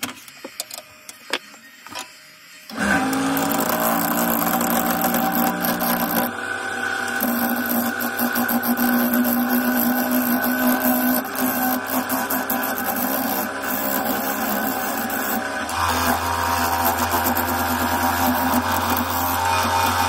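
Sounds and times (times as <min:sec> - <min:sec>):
gouge cutting spinning log: 0:02.7 - 0:20.0
wood lathe motor humming: 0:02.7 - 0:20.0.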